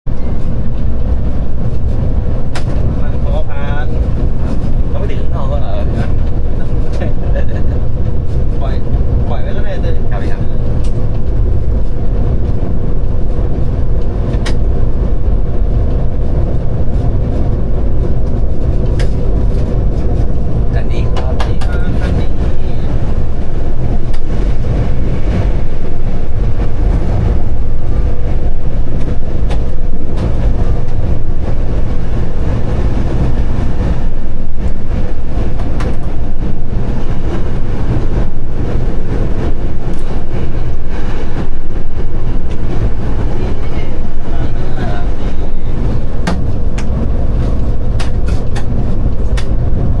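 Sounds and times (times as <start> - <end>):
diesel train engine rumble: 0.1 - 50.0.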